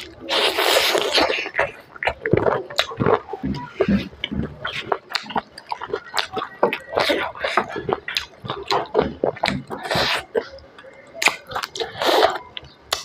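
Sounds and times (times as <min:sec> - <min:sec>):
wet chewing mouth sounds: 0:00.0 - 0:13.0
bite taken noisy rush: 0:00.1 - 0:05.4, 0:06.0 - 0:10.5, 0:11.2 - 0:12.4.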